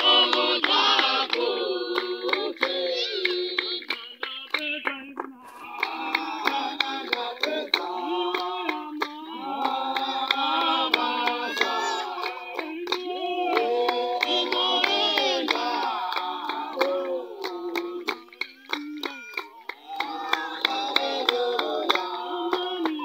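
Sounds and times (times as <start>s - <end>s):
group singing a hymn: 0.0s - 18.9s, 19.8s - 23.0s
hand clapping: 0.0s - 23.0s.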